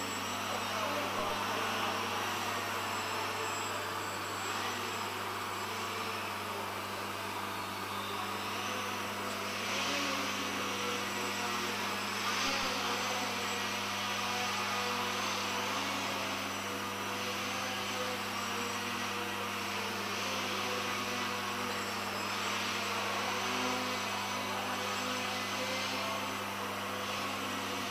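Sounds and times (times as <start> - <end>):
model plane motor buzzing: 0.0 - 27.9.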